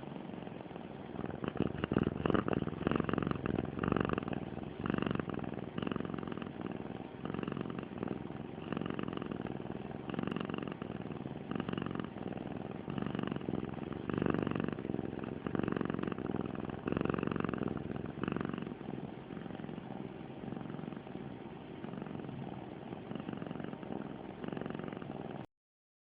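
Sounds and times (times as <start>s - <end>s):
cat purring: 0.0s - 25.5s.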